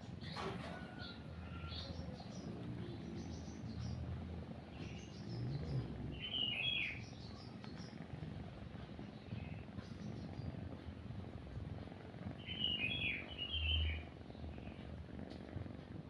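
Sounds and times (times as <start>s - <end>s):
cat purring: 0.0s - 16.0s
small birds chirping: 0.0s - 16.0s.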